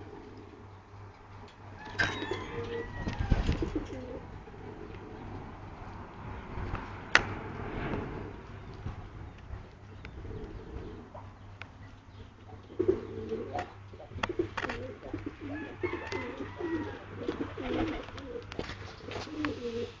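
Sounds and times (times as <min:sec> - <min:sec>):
pigeons cooing: 0:00.0 - 0:06.6, 0:09.6 - 0:20.0
steady low hum: 0:00.0 - 0:20.0.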